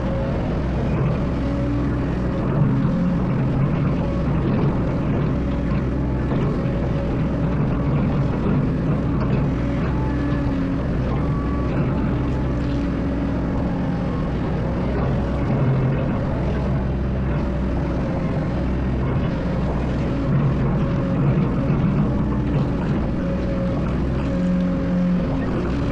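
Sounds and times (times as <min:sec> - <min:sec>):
diesel engine droning: 0:00.0 - 0:25.9.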